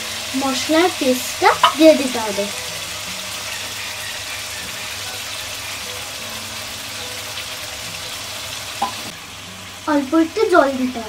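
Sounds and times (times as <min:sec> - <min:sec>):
prawns sizzling in oil: 0:00.0 - 0:11.0.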